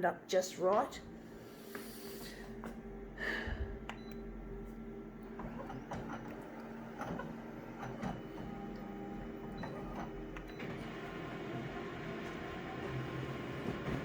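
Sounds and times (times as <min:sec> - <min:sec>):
photocopier motor hum: 0:00.9 - 0:14.0.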